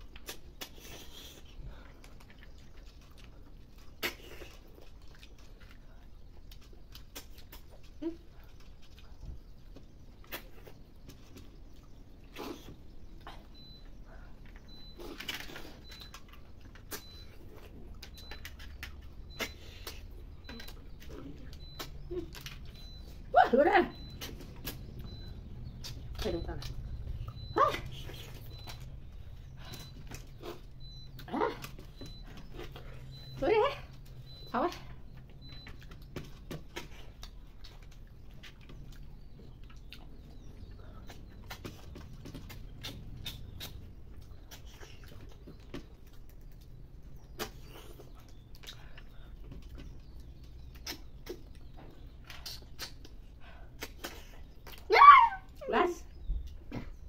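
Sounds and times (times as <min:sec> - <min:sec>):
chewing clicks and smacks: 0:00.0 - 0:23.3, 0:23.9 - 0:54.9, 0:55.5 - 0:57.0
steady low hum: 0:00.0 - 0:54.9.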